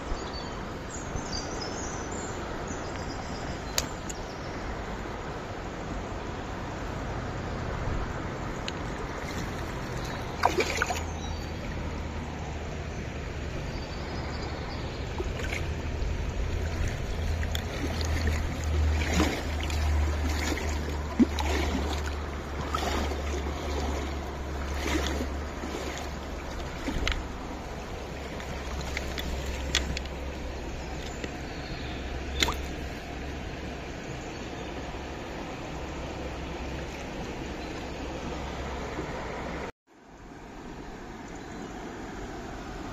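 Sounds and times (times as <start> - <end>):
stream water running: 0.0 - 42.9.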